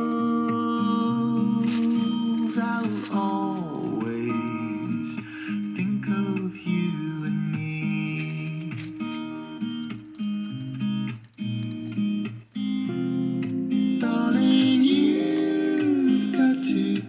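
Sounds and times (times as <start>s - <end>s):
song with acoustic guitar: 0.0s - 17.0s.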